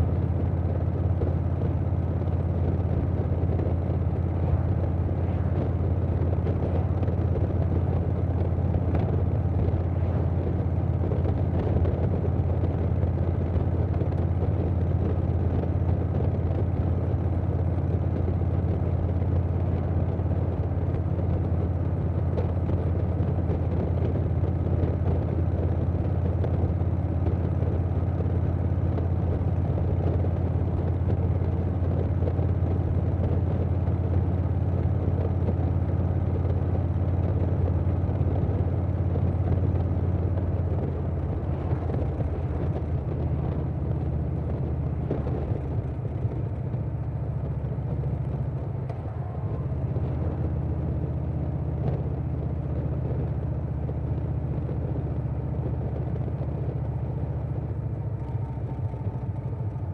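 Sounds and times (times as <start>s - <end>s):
motorcycle engine cruising: 0.0s - 59.9s
wind rush: 0.0s - 59.9s.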